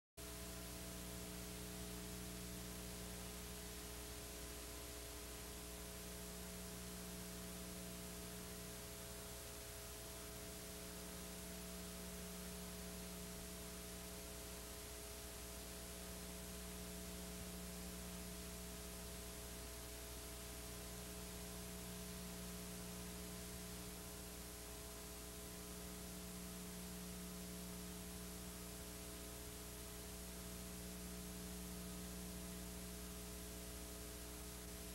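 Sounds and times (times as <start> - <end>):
electrical hum: 0.2 - 34.9
tape hiss: 0.2 - 34.9.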